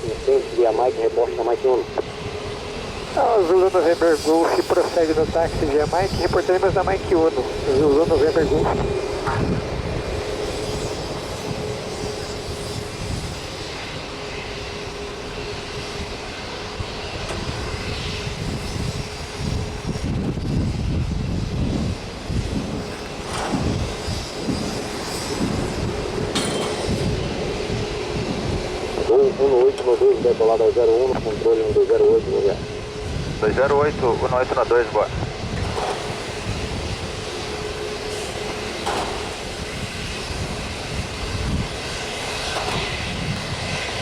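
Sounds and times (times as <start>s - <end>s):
jet engines whining and rumbling: 0.0s - 44.0s.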